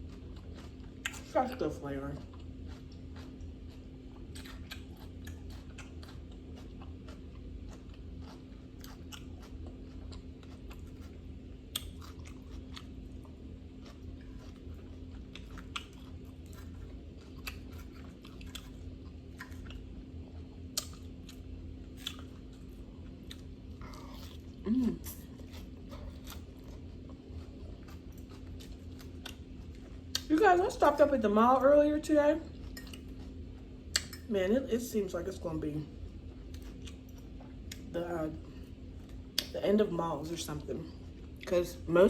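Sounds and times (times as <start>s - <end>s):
chewing food: 0.0s - 34.3s, 35.9s - 39.6s, 40.4s - 41.9s.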